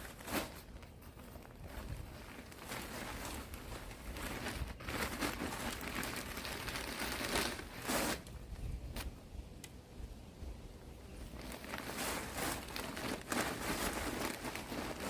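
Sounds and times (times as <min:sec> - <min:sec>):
plastic bag crinkling: 0:00.0 - 0:08.4, 0:11.2 - 0:15.0.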